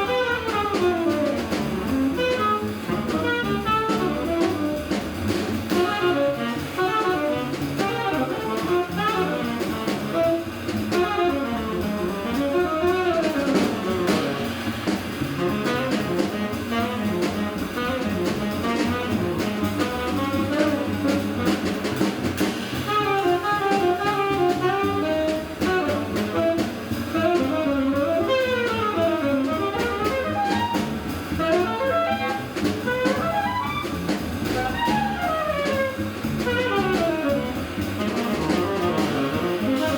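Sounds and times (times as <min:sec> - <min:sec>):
drum kit: 0:00.0 - 0:39.9
saxophone playing jazz runs: 0:00.0 - 0:39.9.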